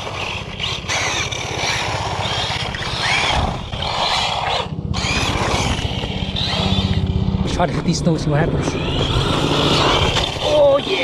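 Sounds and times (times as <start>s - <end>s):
electric motor whining: 0.0s - 11.0s
tyres on rough pavement: 0.0s - 11.0s.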